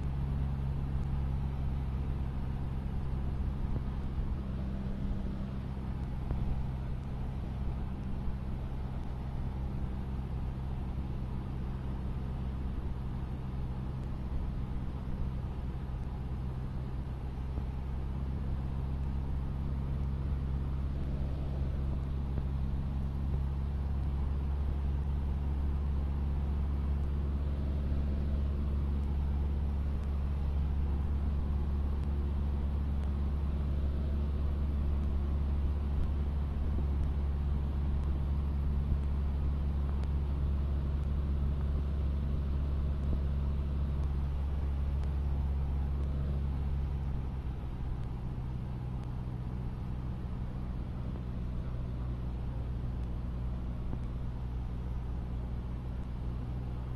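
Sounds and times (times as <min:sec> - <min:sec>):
small plane engine drone: 0:00.0 - 0:56.9.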